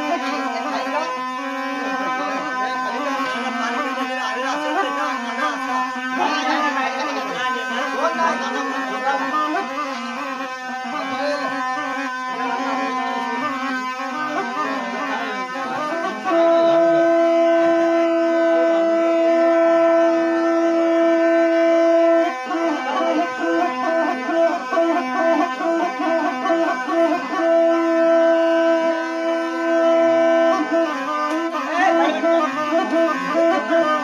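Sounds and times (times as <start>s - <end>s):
continuous drone: 0.0s - 34.0s
reedy wind instrument melody: 0.0s - 34.0s.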